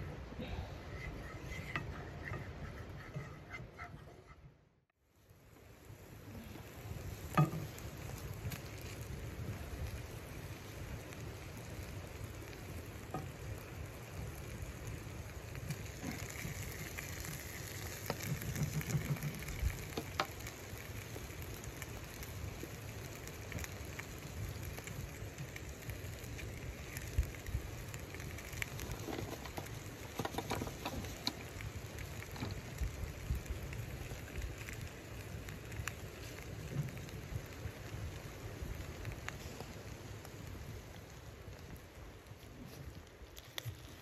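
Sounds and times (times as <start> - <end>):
chicken sizzling in frying pan: 5.2 - 41.9
fat popping and crackling: 5.6 - 44.0.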